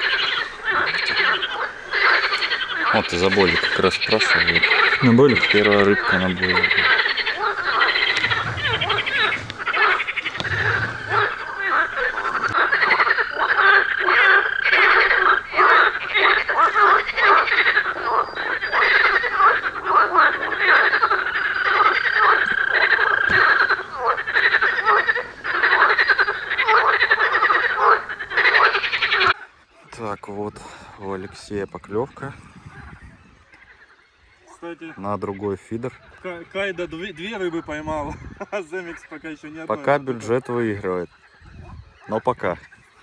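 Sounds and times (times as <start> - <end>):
chorus of frogs calling: 0.0 - 43.0.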